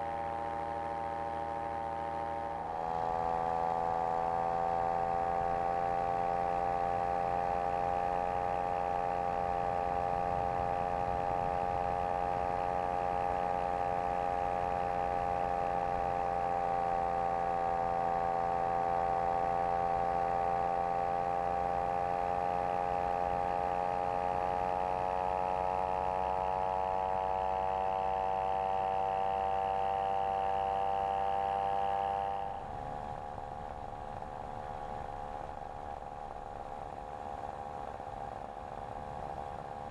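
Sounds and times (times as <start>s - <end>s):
microlight engine and propeller: 0.0s - 39.9s.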